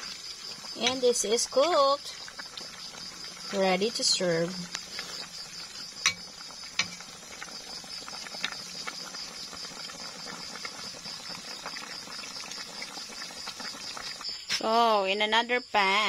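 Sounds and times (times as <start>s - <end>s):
bubbling broth popping: 0.0s - 14.6s
soup simmering in a pot: 0.0s - 14.6s.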